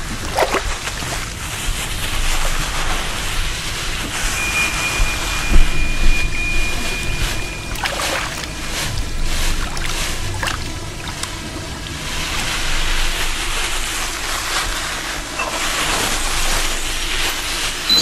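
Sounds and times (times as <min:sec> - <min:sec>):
water splashes: 0:00.0 - 0:15.0
water sloshing and rushing: 0:00.0 - 0:17.8.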